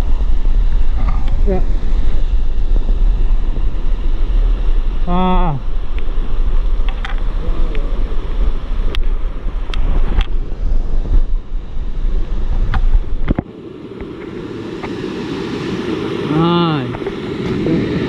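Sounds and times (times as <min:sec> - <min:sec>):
steady rushing hiss: 0:00.0 - 0:18.0
wind buffeting microphone: 0:00.0 - 0:18.0.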